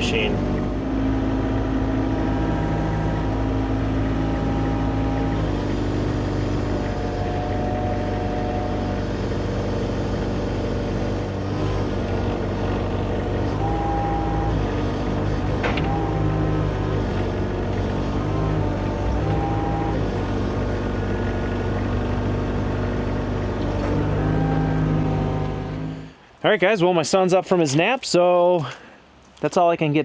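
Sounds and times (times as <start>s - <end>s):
excavator diesel engine running: 0.0s - 26.4s
hydraulic whine: 0.0s - 26.4s.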